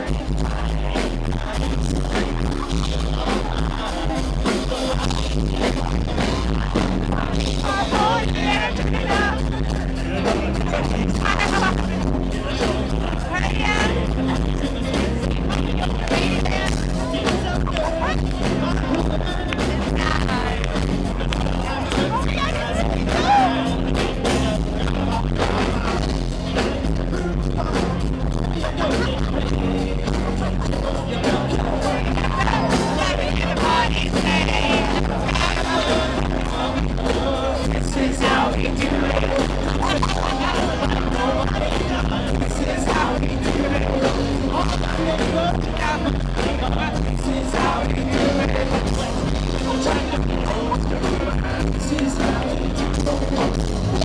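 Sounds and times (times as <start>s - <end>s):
live band playing: 0.0s - 54.0s
man singing into microphone: 0.0s - 54.0s.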